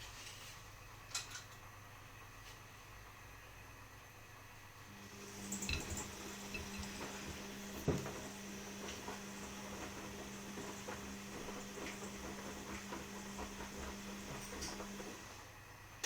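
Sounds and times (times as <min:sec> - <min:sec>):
washing machine motor hum: 0:02.0 - 0:16.0.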